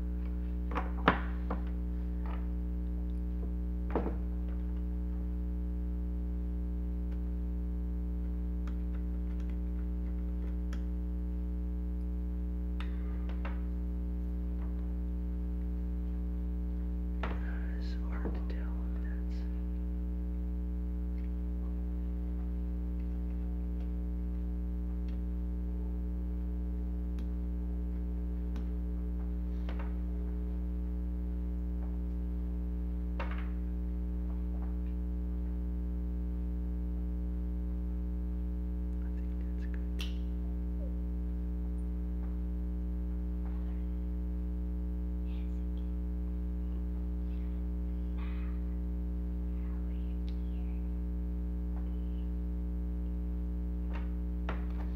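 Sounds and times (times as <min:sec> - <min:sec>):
electrical mains hum: 0:00.0 - 0:54.9.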